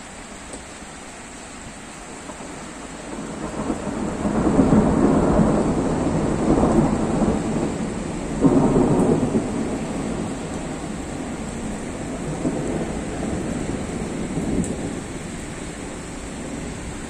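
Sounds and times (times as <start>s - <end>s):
heavy rain: 0.0s - 17.0s
thunder rumbling: 2.2s - 17.0s.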